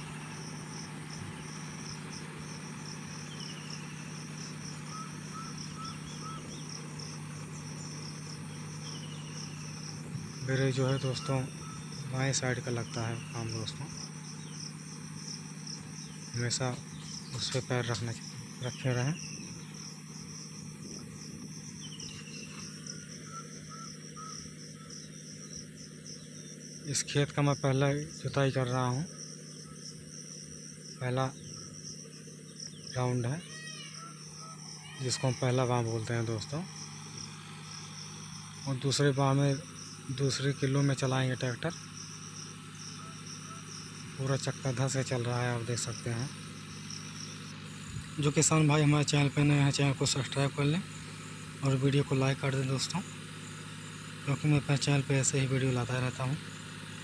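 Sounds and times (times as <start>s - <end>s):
bird chirps: 0.0s - 57.0s
pulsing insect chirping: 0.0s - 57.0s
tractor diesel engine running: 0.0s - 57.0s.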